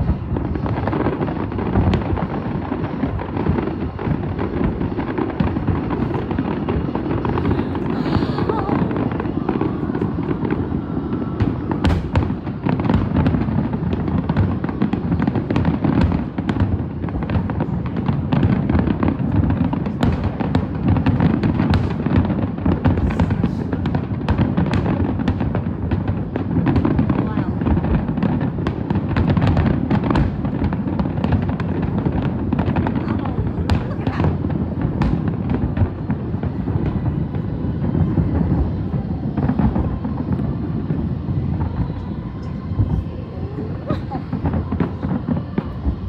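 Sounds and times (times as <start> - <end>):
fireworks bangs and crackles: 0.0 - 46.0
fireworks rumble: 0.0 - 46.0.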